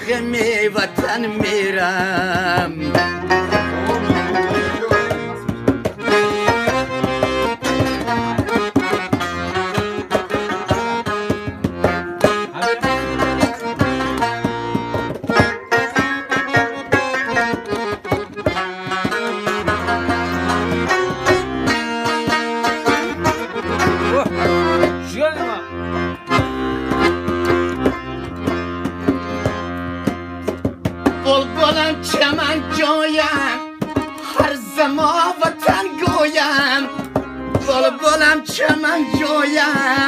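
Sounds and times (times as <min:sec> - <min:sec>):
plucked lute folk music: 0:00.0 - 0:40.0.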